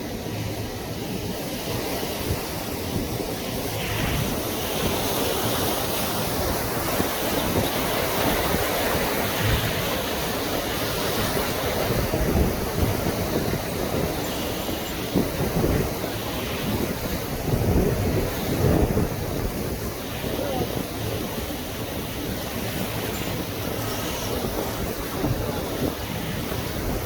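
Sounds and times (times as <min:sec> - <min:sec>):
surf-like rushing noise: 0:00.0 - 0:27.0
wind buffeting microphone: 0:00.0 - 0:27.0.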